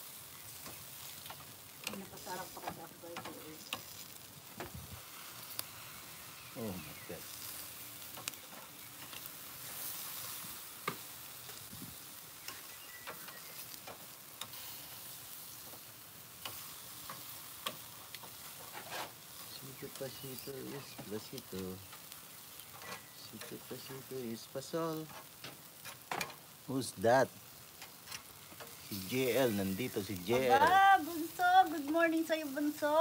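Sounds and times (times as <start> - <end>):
meat sizzling on a grill: 0.0 - 33.0.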